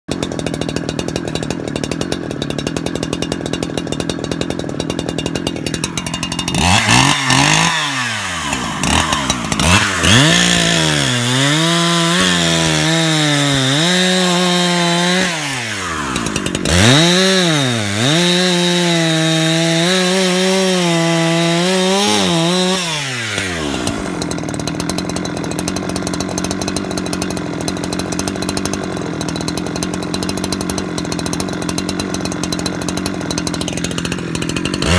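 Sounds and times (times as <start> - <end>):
chainsaw cutting through log: 0.1 - 34.9
chainsaw engine revving: 0.1 - 34.9.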